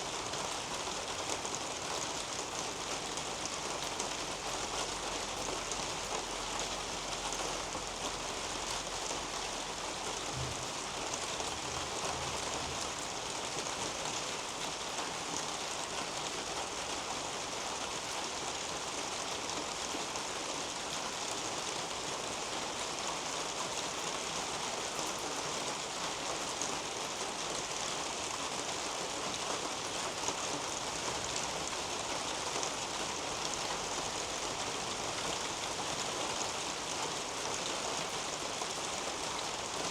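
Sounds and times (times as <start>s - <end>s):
rain on foliage and roof: 0.0s - 39.9s.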